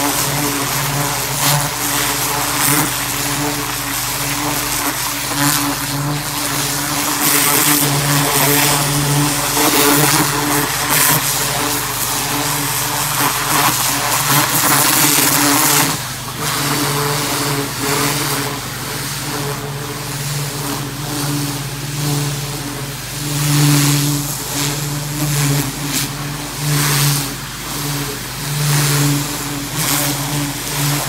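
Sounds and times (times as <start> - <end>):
pressure washer motor hum: 0.0 - 31.0.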